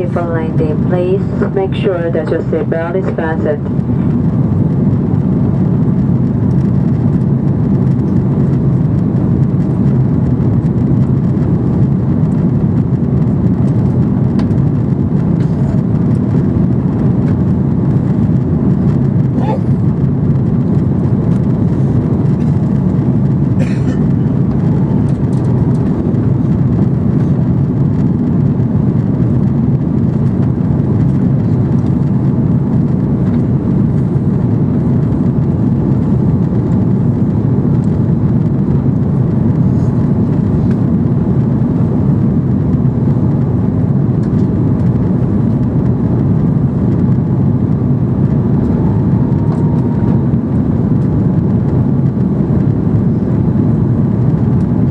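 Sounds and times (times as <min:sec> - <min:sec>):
airplane cabin engine drone: 0:00.0 - 0:54.9.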